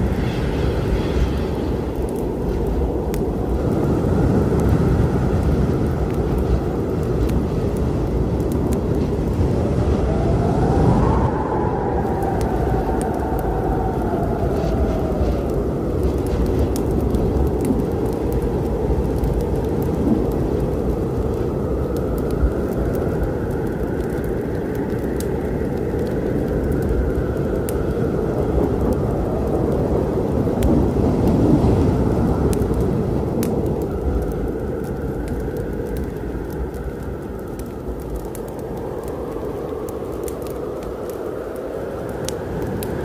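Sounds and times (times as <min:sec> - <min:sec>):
low rumble of thunder: 0:00.0 - 0:41.2
rain: 0:00.0 - 0:43.0
wood fire crackling: 0:00.0 - 0:43.0.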